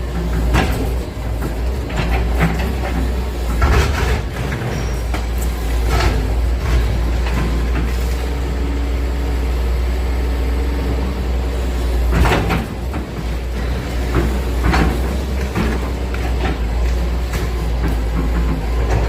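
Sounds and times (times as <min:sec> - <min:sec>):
demolition knocks and scrapes: 0:00.0 - 0:08.3, 0:12.0 - 0:19.0
excavator engine rumbling: 0:00.0 - 0:19.0.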